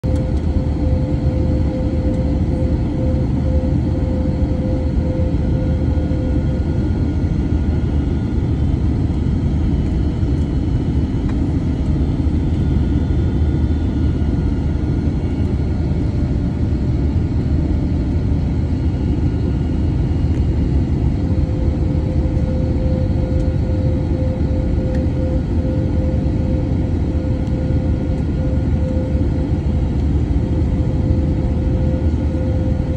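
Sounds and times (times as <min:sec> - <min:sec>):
airliner engine rumble: 0:00.0 - 0:32.9
mid-pitched hum: 0:00.0 - 0:32.9.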